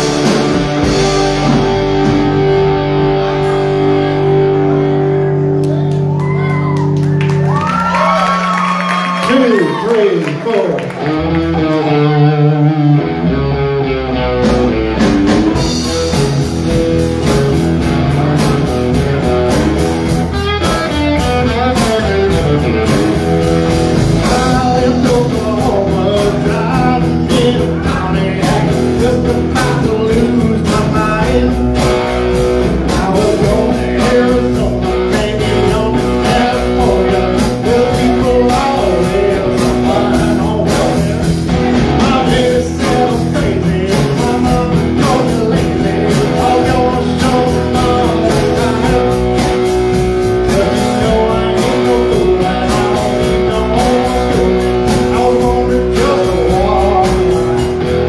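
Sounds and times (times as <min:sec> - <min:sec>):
bass guitar: 0:00.0 - 0:58.0
drums: 0:00.0 - 0:58.0
electric guitar playing: 0:00.0 - 0:58.0.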